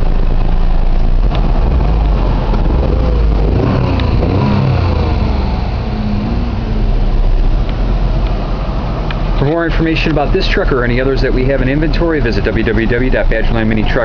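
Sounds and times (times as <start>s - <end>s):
small truck engine running: 0.0s - 14.0s.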